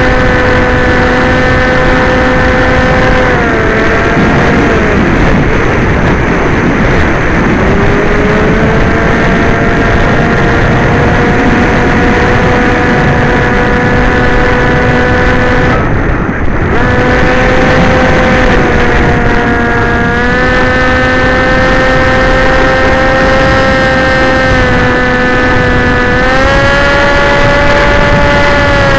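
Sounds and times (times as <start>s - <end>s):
electric motor propeller whine: 0.0s - 28.9s
wind rush: 0.0s - 28.9s.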